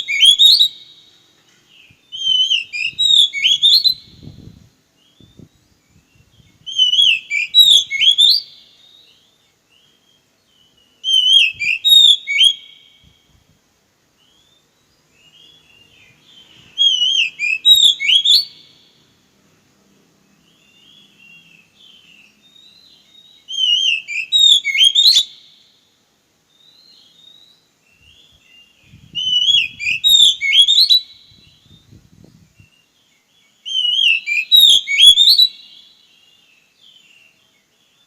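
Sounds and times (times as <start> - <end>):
bird singing whistled phrase: 0.0 - 1.0, 1.9 - 13.2, 14.2 - 18.7, 20.6 - 25.4, 26.6 - 33.0, 33.6 - 37.4.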